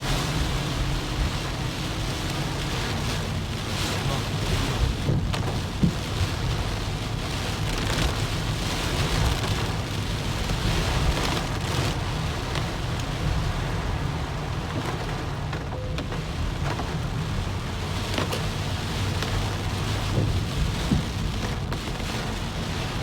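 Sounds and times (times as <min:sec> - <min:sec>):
heavy rain beating on car: 0:00.0 - 0:23.0
road and engine rumble: 0:00.0 - 0:23.0
wind: 0:00.0 - 0:23.0.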